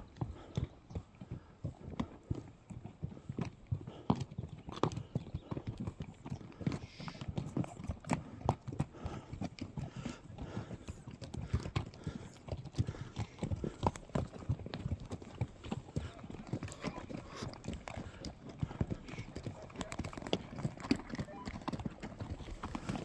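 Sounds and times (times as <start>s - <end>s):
horse hooves on stony trail: 0.0s - 23.0s.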